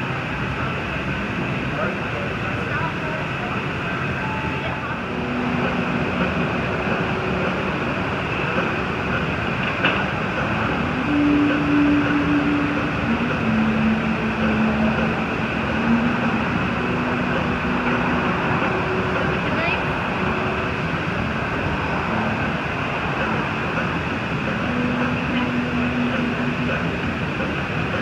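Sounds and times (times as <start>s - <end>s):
gas furnace roaring: 0.0s - 28.0s.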